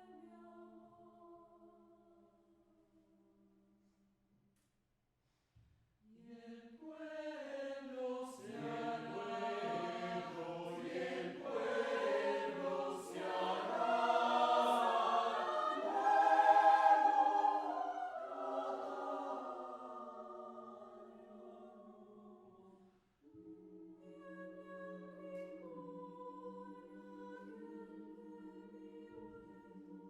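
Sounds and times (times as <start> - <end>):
a cappella vocal ensemble: 0.0 - 2.2, 6.1 - 30.0.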